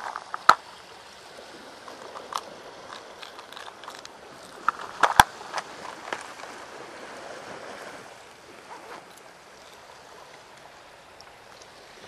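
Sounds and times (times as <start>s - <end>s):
sea washing against rocks: 0.0s - 12.0s.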